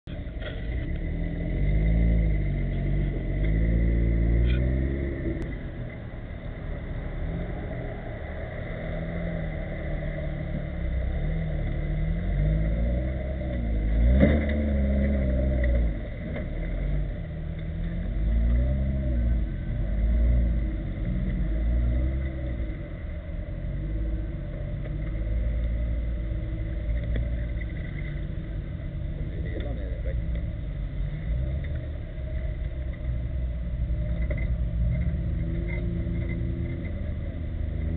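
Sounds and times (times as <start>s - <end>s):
diesel truck engine revving: 0.1s - 37.9s.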